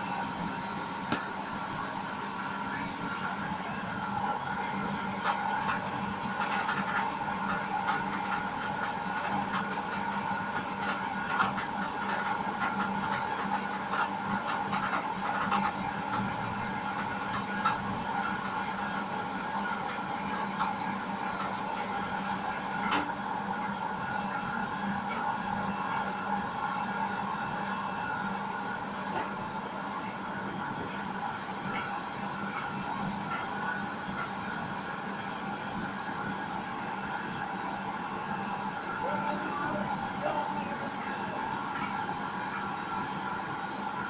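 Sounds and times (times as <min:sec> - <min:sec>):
dough frying in hot oil: 0:00.0 - 0:44.0
steady mechanical hum: 0:00.0 - 0:44.0.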